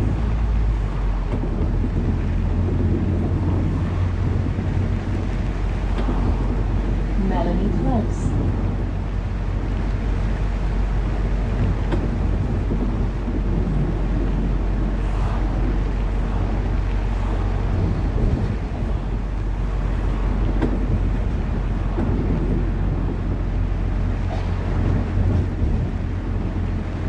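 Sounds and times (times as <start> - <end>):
bus engine and road rumble: 0.0 - 27.0.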